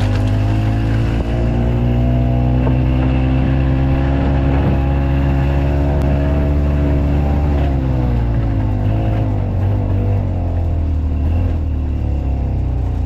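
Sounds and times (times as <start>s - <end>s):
golf car engine running: 0.0s - 13.0s.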